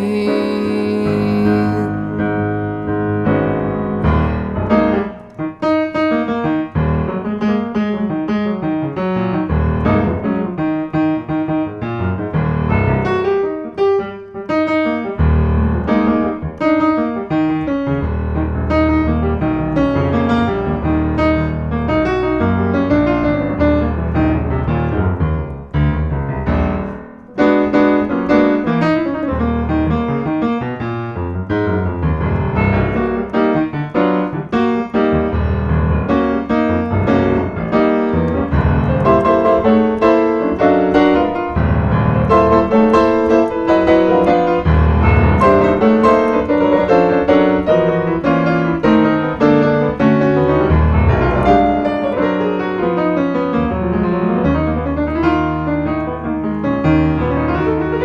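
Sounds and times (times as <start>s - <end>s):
jazz piano playing: 0.0s - 58.0s.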